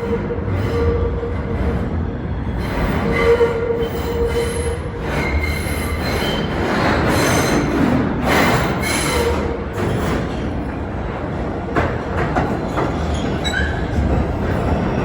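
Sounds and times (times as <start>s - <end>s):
wheels squealing on rails: 0.0s - 10.8s, 12.3s - 15.0s
subway train rumbling: 0.0s - 15.0s.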